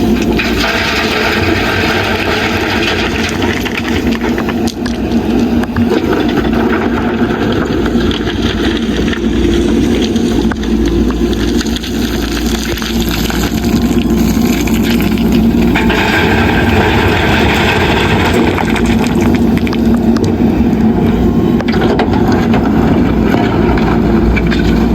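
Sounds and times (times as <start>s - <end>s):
diesel engine running under load: 0.0s - 24.9s
harsh gritty noise: 0.0s - 24.9s.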